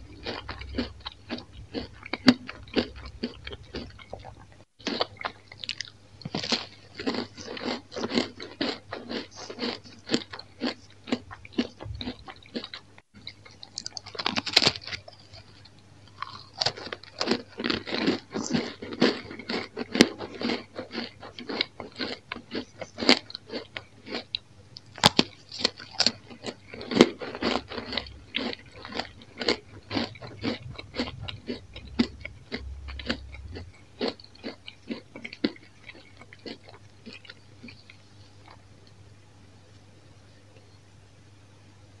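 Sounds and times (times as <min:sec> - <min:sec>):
crunchy bread being chewed: 0:00.0 - 0:39.0.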